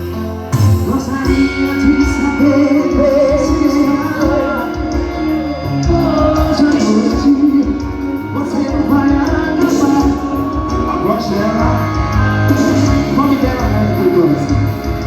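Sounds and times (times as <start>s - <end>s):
live music: 0.0s - 15.0s
person singing: 0.0s - 15.0s.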